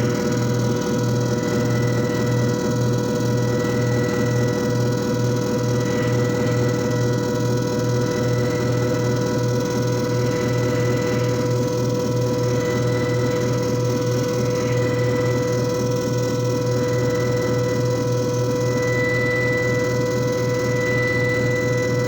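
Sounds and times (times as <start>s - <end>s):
constant whining tones: 0.0s - 22.0s
pulsing motor hum: 0.0s - 22.0s.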